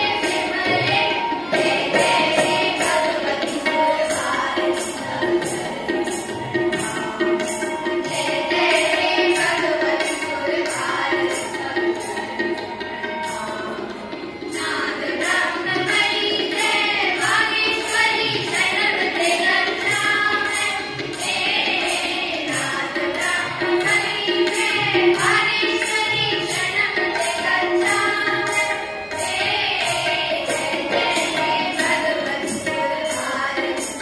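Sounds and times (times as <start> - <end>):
group of young voices singing: 0.0 - 34.0
jingling percussion beat: 0.0 - 34.0.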